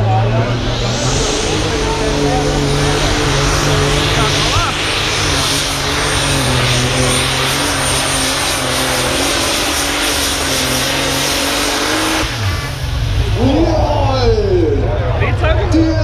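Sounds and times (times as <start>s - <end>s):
tractor engine at full load: 0.0s - 16.0s.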